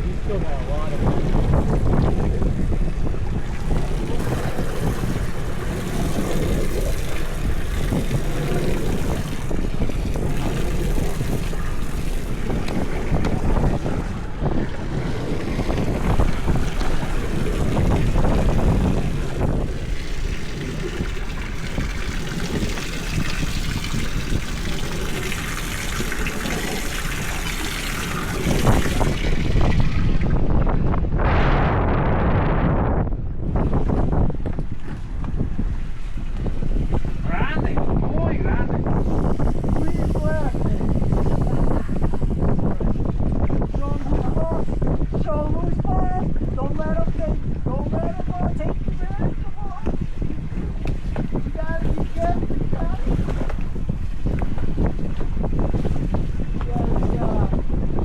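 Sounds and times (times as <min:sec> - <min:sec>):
wind buffeting the microphone: 0:00.0 - 0:58.0.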